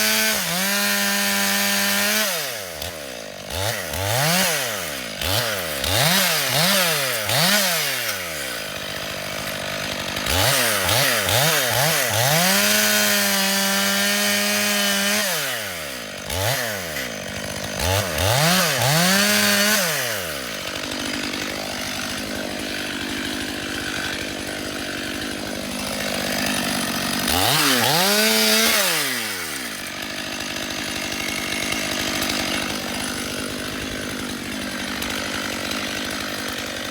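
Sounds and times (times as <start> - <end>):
chainsaw engine revving: 0.0 - 36.9.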